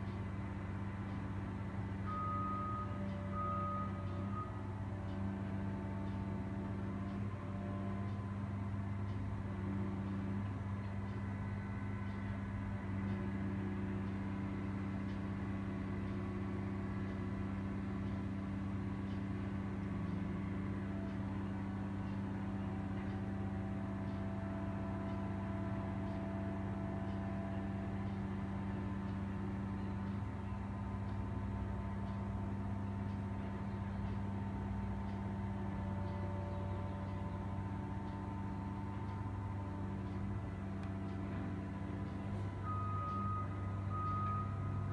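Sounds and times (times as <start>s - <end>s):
heavy diesel engines idling: 0.0s - 44.9s.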